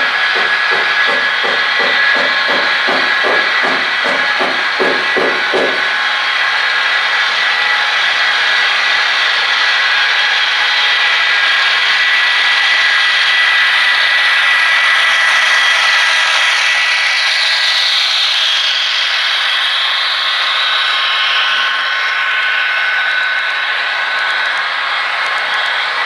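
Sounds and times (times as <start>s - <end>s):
high motor whine: 0.0s - 26.0s.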